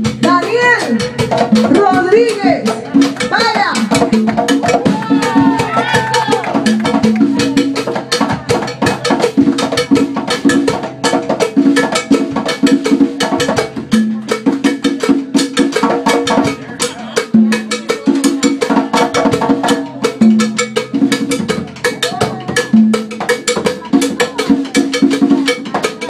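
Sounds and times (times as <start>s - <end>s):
drum and percussion hits: 0.0s - 26.0s
repeating bass line: 0.0s - 26.0s.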